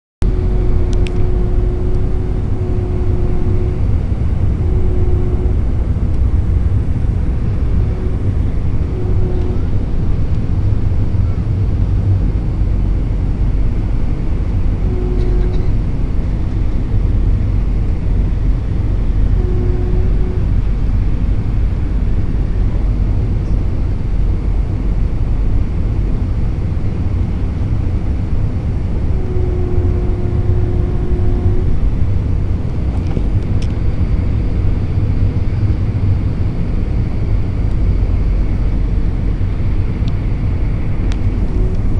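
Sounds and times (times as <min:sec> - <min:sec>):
airliner cabin engine rumble: 0:00.2 - 0:41.9
humming tone: 0:00.2 - 0:41.9.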